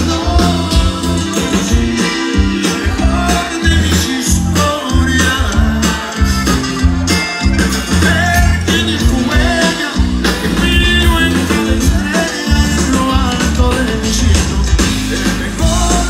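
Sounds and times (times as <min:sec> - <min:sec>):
live band with accordion: 0:00.0 - 0:16.0.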